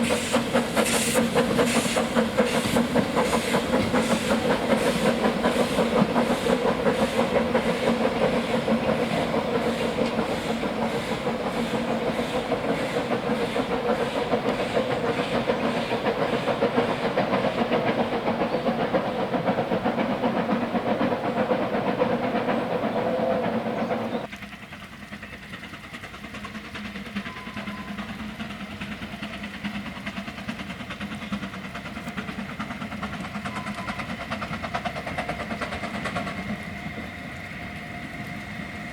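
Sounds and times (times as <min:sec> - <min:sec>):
steam hiss: 0:00.0 - 0:38.9
wheels clicking fast: 0:00.0 - 0:38.9.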